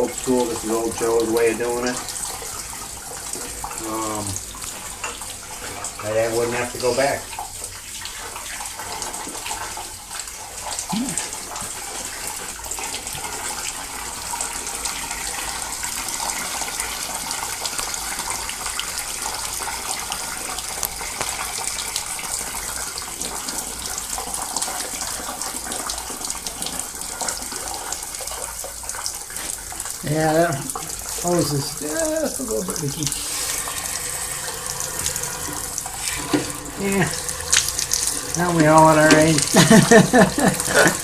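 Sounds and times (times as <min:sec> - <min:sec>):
hose water splashing: 0:00.0 - 0:41.0.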